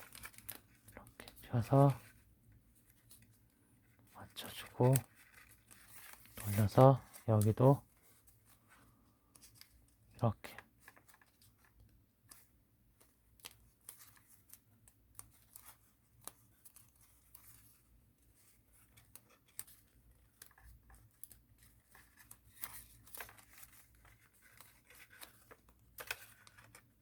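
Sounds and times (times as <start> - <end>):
paper rustling and crinkling: 0.0 - 27.0.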